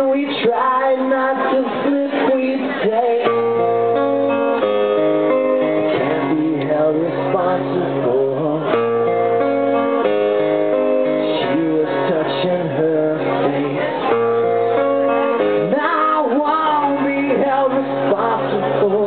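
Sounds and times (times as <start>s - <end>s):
man singing: 0.0s - 4.4s, 5.6s - 9.9s, 10.7s - 19.0s
acoustic guitar strumming: 0.0s - 19.0s.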